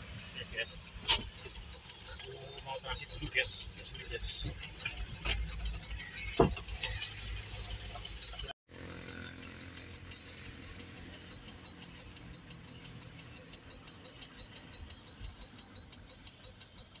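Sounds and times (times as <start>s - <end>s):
diesel engine idling: 0.0s - 17.0s
fast regular ticking: 0.0s - 17.0s.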